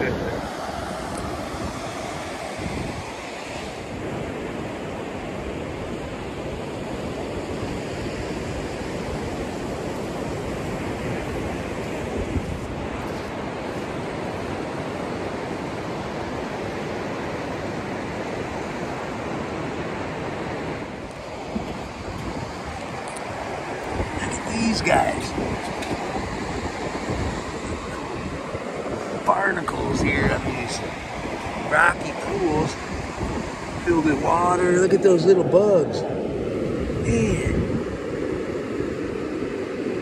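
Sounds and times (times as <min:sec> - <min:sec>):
small waves washing on beach: 0:00.0 - 0:40.0
wind: 0:00.0 - 0:40.0.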